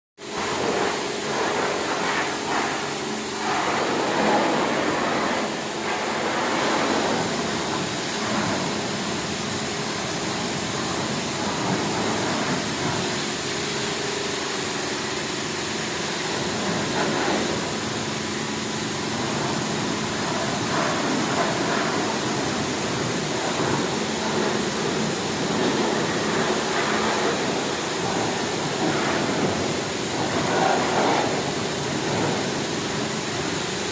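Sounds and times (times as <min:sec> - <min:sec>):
pressure washer water spray hiss: 0:00.2 - 0:33.9
pump humming: 0:00.2 - 0:33.9.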